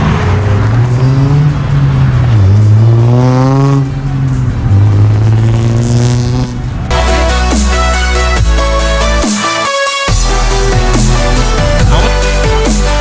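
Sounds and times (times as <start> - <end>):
car engine revving: 0.0 - 13.0
electronic music: 0.5 - 13.0.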